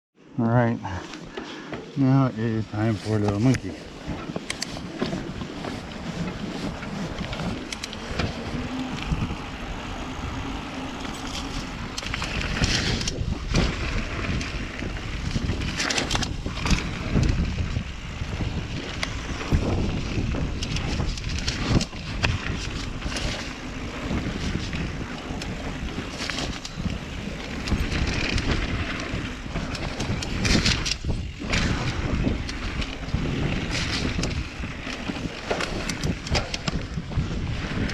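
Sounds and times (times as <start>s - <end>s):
wind rushing over microphone: 2.4s - 37.9s
bike knocking and rattling: 3.1s - 37.9s
tyre noise on dirt: 3.8s - 36.0s.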